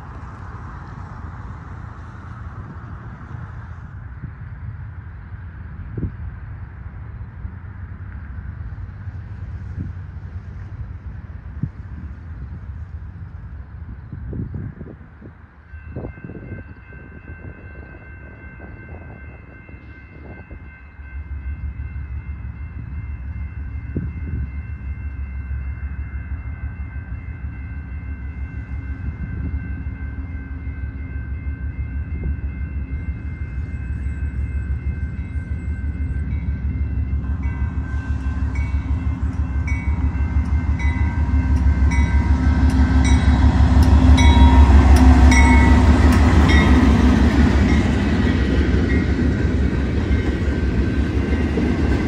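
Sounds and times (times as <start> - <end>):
diesel locomotive engine rumble: 0.0 - 52.0.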